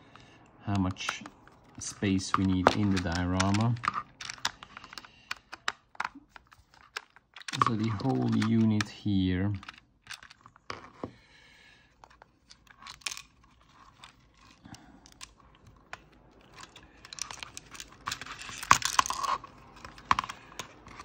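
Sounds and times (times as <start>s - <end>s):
plastic parts clicking and scraping: 0.0s - 21.0s
scratchy plastic rattles: 0.8s - 11.2s, 11.9s - 21.0s.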